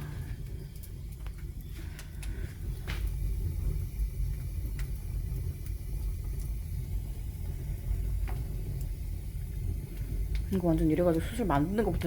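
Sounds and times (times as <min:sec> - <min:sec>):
firewood crackling and popping: 0:00.0 - 0:12.0
low fire rumble: 0:00.0 - 0:12.0.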